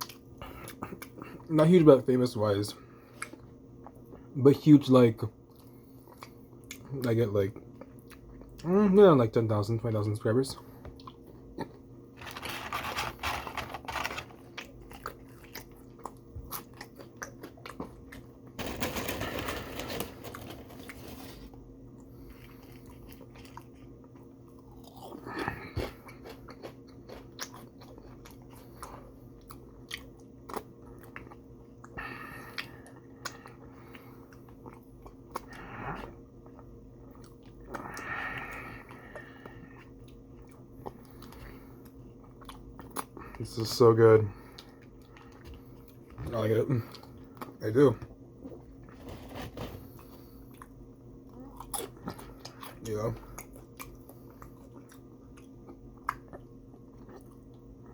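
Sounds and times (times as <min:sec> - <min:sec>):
person chewing crunchy food: 0:00.0 - 0:01.5, 0:10.6 - 0:43.5, 0:44.4 - 0:57.9
steady low hum: 0:00.0 - 0:57.9.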